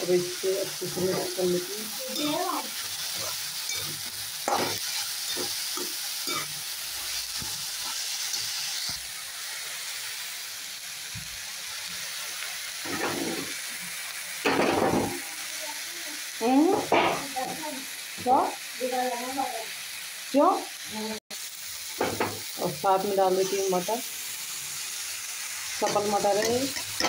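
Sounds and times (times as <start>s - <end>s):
onions and spices sizzling in oil: 0.0s - 27.0s.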